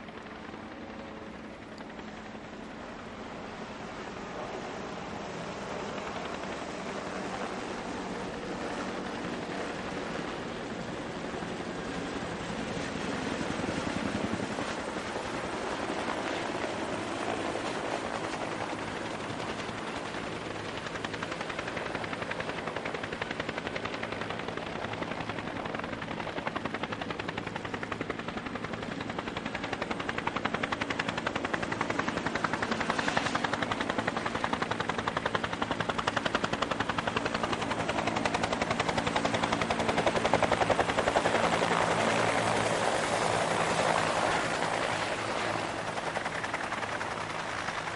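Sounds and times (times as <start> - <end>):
helicopter rotors chopping: 0.0 - 47.9.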